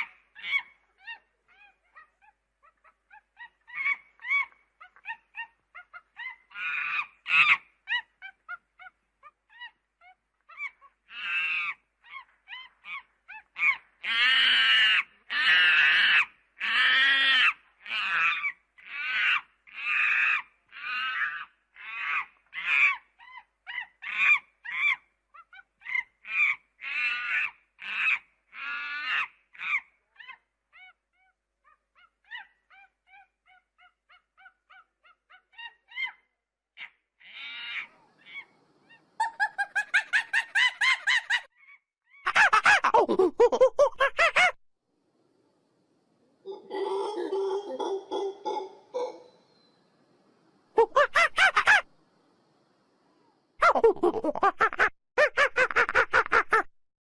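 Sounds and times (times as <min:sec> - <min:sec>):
monkey calling harshly: 0:00.0 - 0:09.8, 0:10.5 - 0:36.2, 0:36.8 - 0:44.6, 0:46.5 - 0:49.4, 0:50.8 - 0:51.9.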